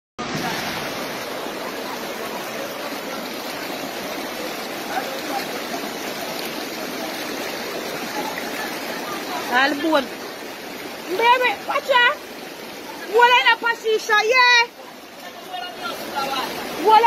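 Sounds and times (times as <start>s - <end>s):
floodwater rushing: 0.2s - 17.0s.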